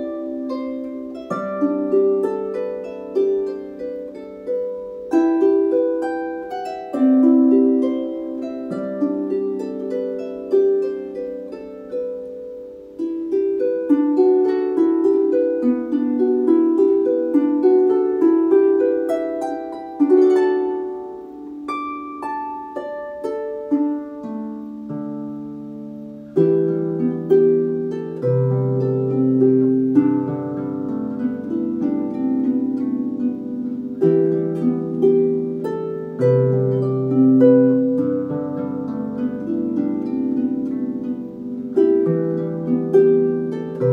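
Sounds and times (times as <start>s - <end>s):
harp melody: 0.0s - 43.9s.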